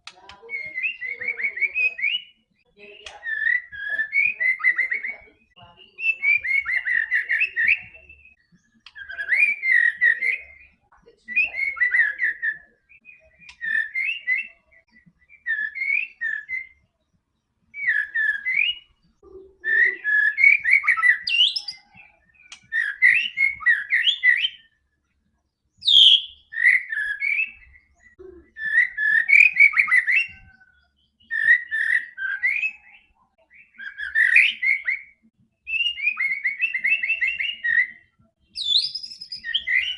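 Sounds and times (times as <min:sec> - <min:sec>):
songbird warbling whistles: 0:00.4 - 0:16.8, 0:17.7 - 0:19.0, 0:19.6 - 0:24.8, 0:25.8 - 0:39.9.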